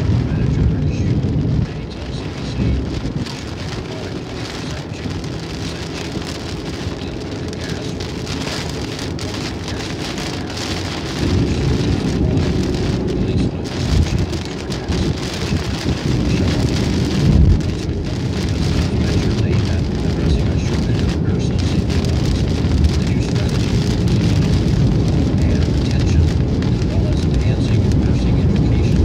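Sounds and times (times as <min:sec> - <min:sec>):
rain on a windshield: 0:00.0 - 0:29.0
road and engine rumble: 0:00.0 - 0:29.0.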